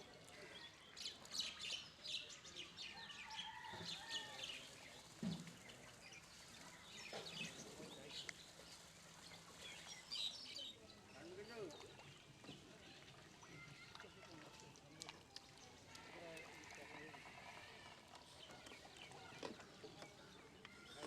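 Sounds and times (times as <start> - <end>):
small birds chirping: 0.1 - 17.3.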